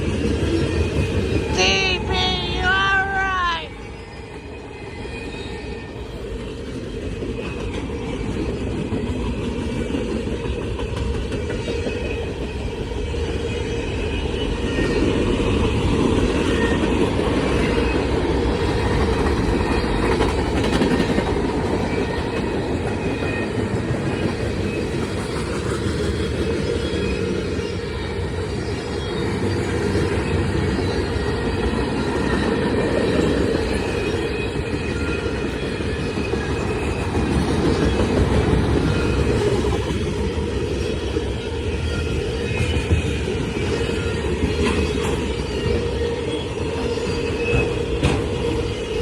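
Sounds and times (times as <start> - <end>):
freight train wheels rumbling: 0.0 - 49.0
clickety-clack over rail joints: 6.3 - 49.0.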